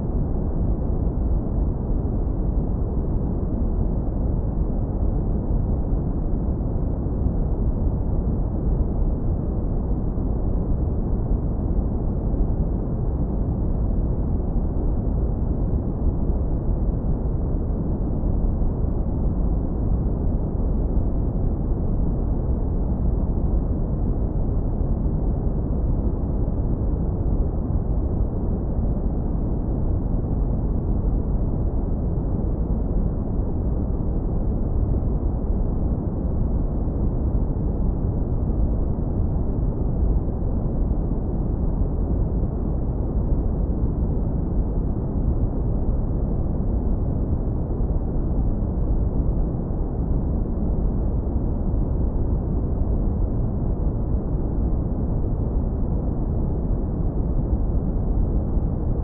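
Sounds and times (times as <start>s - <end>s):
deep rumbling brown noise: 0.0s - 59.0s.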